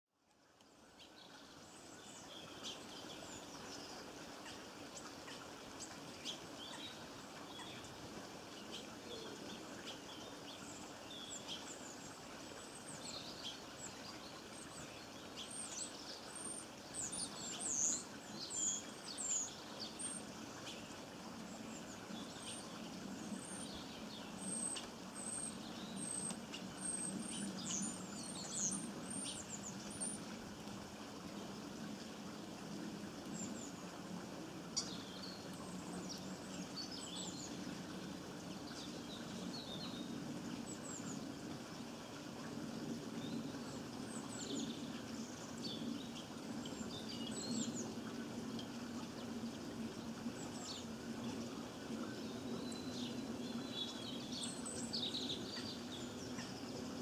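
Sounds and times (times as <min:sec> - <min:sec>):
low background noise: 0:00.1 - 0:57.0
small songbirds chirping: 0:00.2 - 0:57.0.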